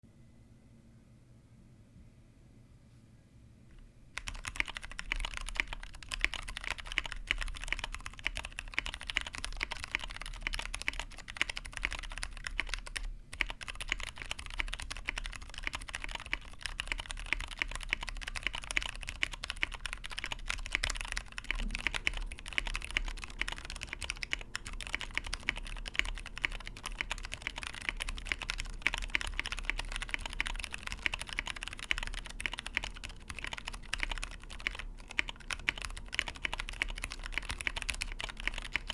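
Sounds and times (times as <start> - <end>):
fast mechanical keyboard typing: 4.2 - 38.9.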